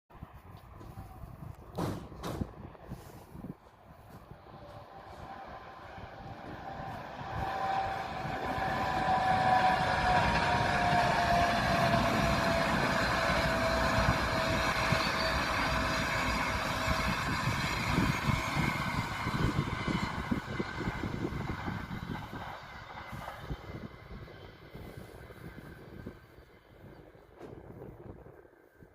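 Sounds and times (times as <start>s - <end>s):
passenger train rumbling by: 0.2s - 28.9s.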